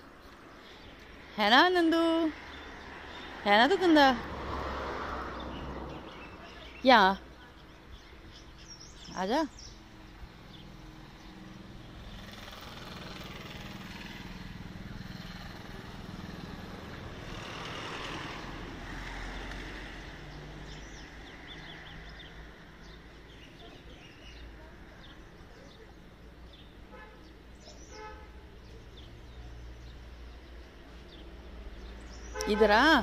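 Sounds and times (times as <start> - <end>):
motor vehicle passing: 0.0 - 33.0.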